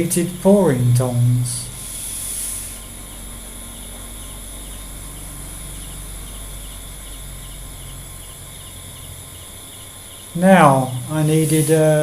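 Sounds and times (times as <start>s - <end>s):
crickets chirping: 0.0s - 12.0s
high-pitched hiss: 0.0s - 12.0s
low hum: 0.0s - 12.0s.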